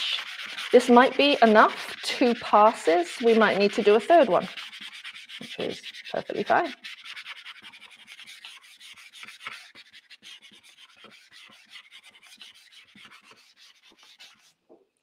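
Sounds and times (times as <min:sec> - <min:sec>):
card edge scraping on paper: 0:00.0 - 0:14.6.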